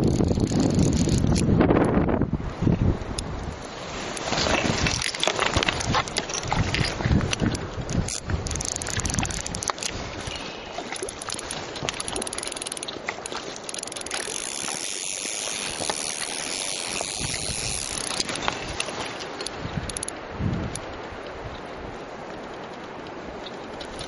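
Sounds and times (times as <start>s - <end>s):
river current rushing: 3.0s - 24.0s.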